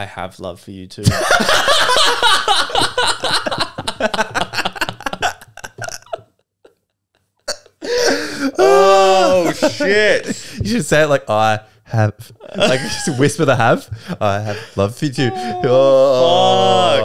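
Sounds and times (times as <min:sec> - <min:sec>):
men laughing: 0:01.0 - 0:10.7, 0:12.3 - 0:17.0.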